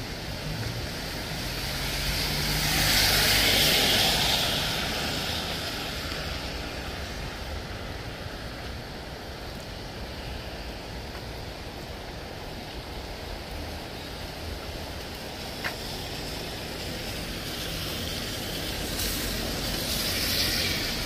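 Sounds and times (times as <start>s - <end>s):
rain rushing: 0.0s - 21.0s
vehicle passing on wet road: 0.0s - 21.0s.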